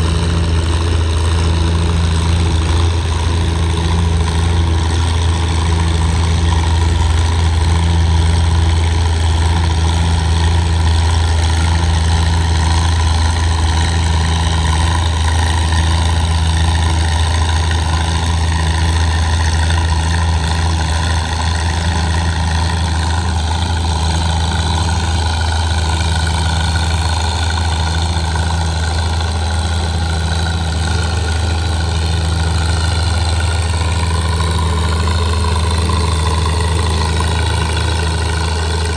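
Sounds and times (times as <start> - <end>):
tractor engine humming: 0.0 - 38.9.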